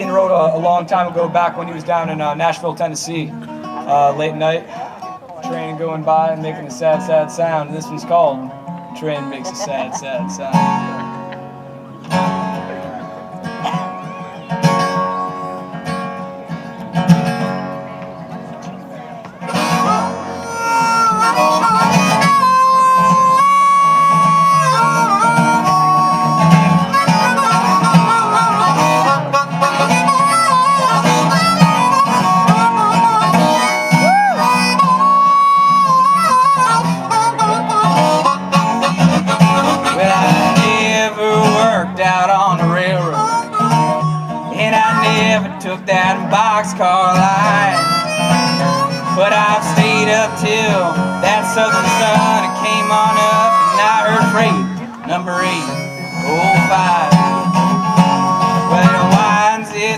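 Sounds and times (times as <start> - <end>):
acoustic guitar: 0.0 - 59.9
harmonica playing held notes: 7.6 - 18.8, 19.4 - 59.9.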